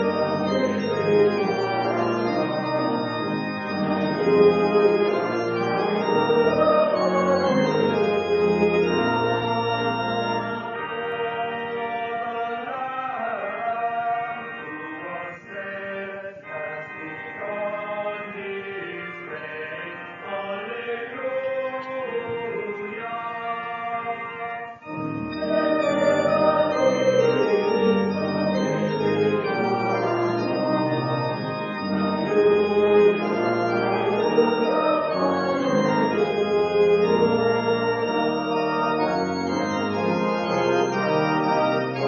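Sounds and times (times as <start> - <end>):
organ playing hymn: 0.0 - 42.0.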